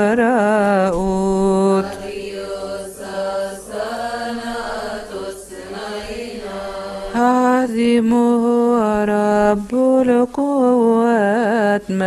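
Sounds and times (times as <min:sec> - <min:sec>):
person chanting a hymn: 0:00.0 - 0:12.0.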